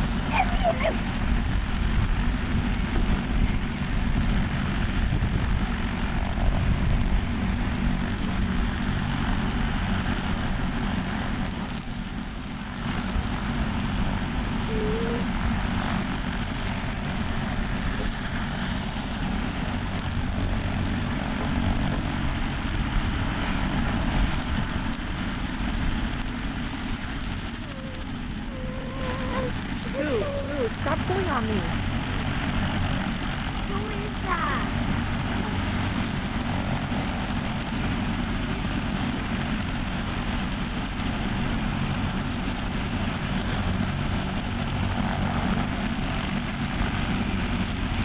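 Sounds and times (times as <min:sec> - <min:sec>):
helicopter running: 0:00.0 - 0:48.0.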